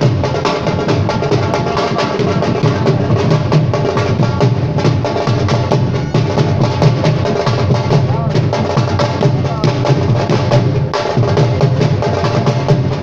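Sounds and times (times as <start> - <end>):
fast hand drumming: 0.0 - 13.0.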